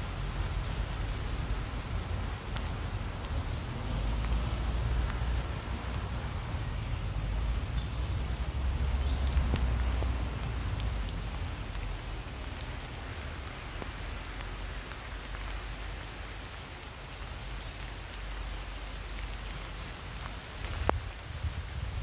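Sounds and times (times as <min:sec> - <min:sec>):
rain falling on leaves: 0:00.0 - 0:22.0.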